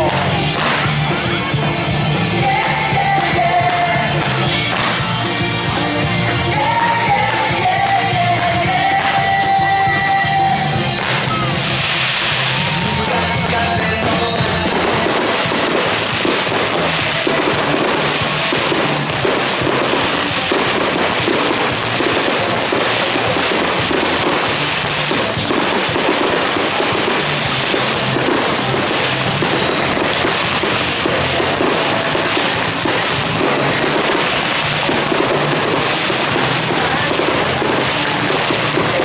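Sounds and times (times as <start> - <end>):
fireworks bangs and crackles: 0.0 - 39.0
loud show music: 0.0 - 39.0.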